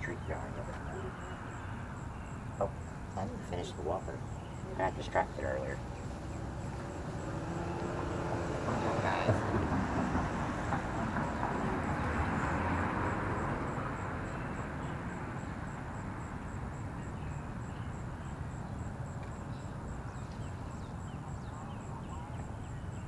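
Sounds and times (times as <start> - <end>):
car passing: 0.0 - 23.0
outdoor background noise: 0.0 - 23.0.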